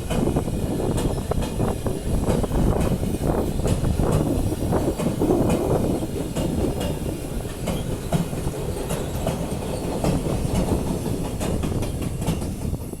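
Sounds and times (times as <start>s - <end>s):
train rolling past: 0.0s - 13.0s
train wheels clicking on rail joints: 0.0s - 13.0s.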